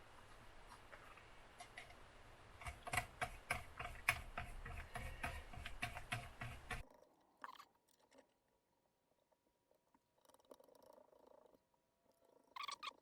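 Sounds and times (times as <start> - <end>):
soft rustle of small parts: 0.0 - 13.0.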